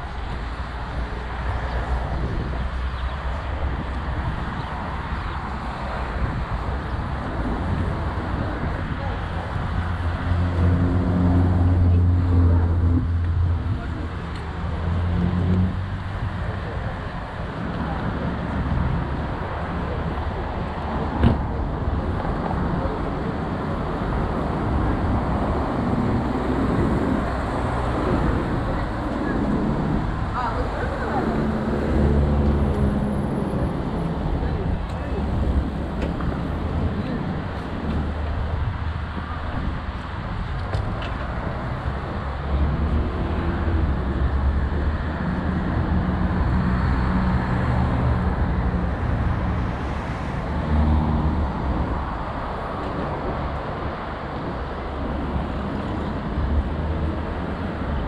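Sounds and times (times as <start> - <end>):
cars passing on street: 0.0 - 58.0
engine hum: 0.0 - 58.0
road noise: 0.0 - 58.0.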